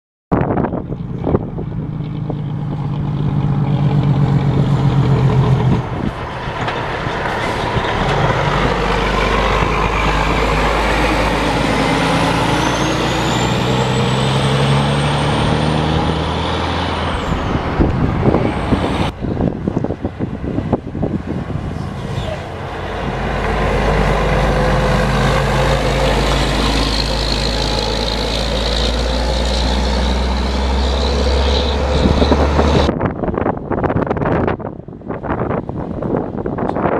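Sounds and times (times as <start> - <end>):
dump truck diesel engine passing: 0.5 - 36.6.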